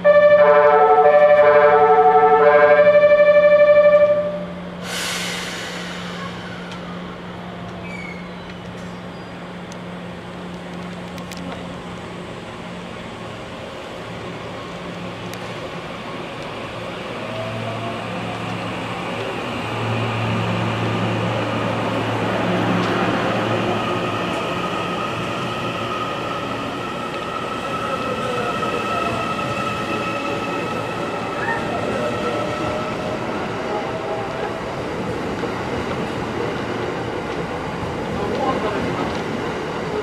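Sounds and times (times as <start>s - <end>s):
train low hum: 0.0s - 40.0s.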